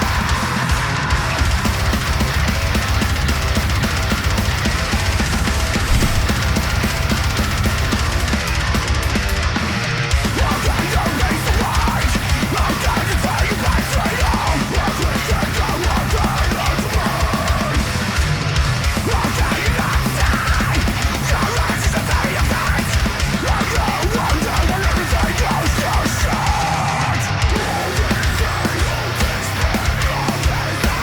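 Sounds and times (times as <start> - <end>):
heavy metal song: 0.0 - 31.0.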